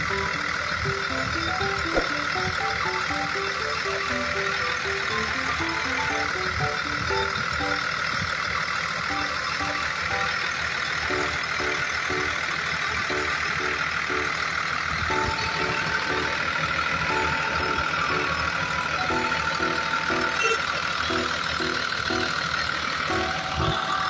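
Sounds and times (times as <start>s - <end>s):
simple tune of short notes: 0.0s - 8.0s, 9.0s - 23.9s
truck engine running: 0.0s - 24.0s.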